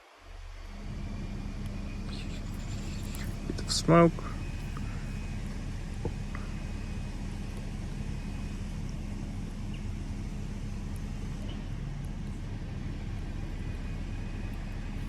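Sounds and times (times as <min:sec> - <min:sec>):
vehicle engine humming: 0:00.2 - 0:15.0.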